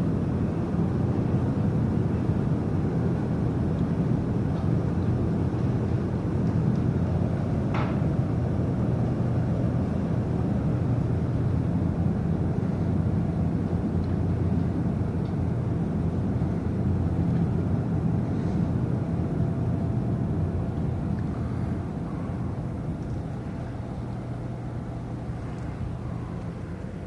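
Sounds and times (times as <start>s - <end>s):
ship low rumble: 0.0s - 27.0s.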